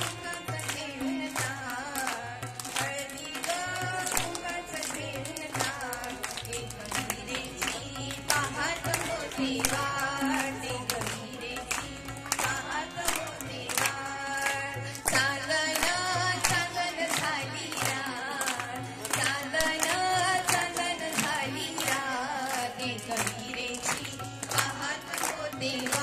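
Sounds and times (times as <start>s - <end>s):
tabla played with fingers: 0.0s - 26.0s
woman singing with vibrato: 0.0s - 26.0s.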